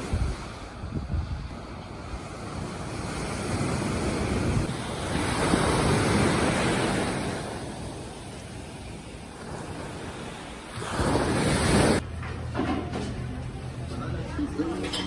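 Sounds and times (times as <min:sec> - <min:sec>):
sea waves washing on shore: 0:00.0 - 0:12.2
wind buffeting microphone: 0:00.0 - 0:15.0.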